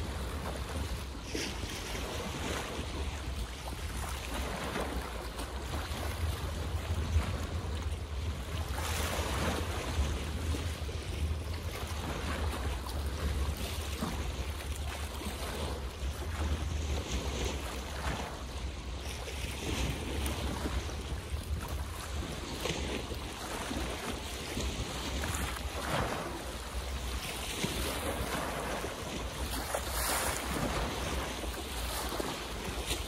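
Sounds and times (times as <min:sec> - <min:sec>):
water splashing in small waves: 0:00.0 - 0:33.0
wind rumbling on microphone: 0:00.0 - 0:33.0.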